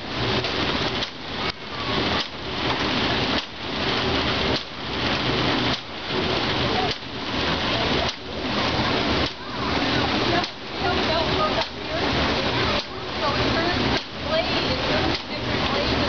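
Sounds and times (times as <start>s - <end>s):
water wheel pouring and splashing: 0.0s - 16.0s.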